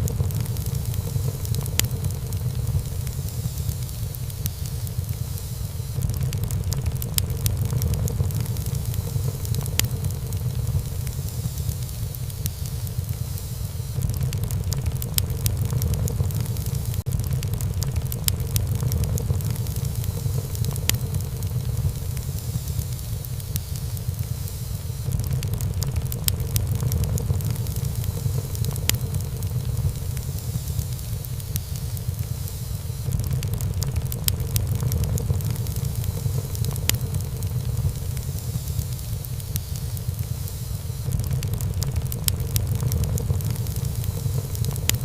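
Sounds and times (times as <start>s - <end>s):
low rumble of flames: 0.0s - 45.0s
wood fire crackling: 0.0s - 45.0s.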